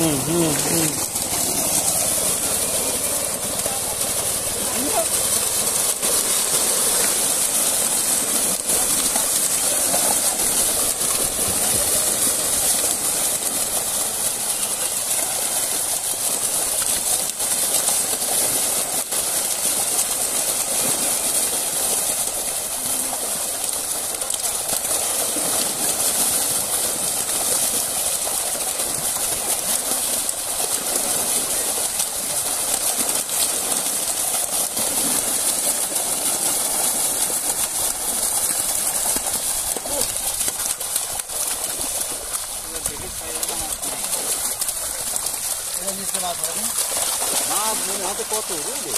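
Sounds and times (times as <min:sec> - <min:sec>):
fish splashing in a net: 0:00.0 - 0:48.9.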